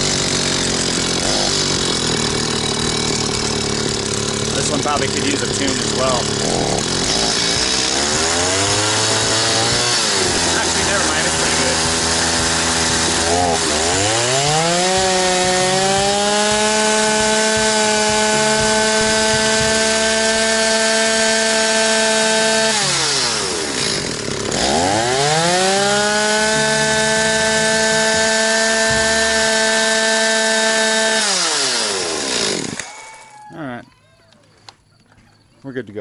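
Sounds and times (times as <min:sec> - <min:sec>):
chainsaw revving: 0:00.0 - 0:33.4.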